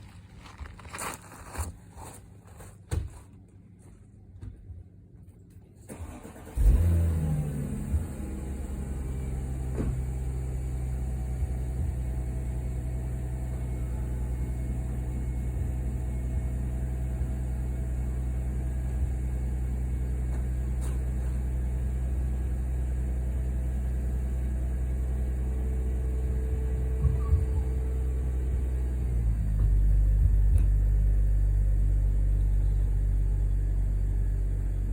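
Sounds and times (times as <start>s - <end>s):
car engine starting and idling: 5.8s - 34.9s.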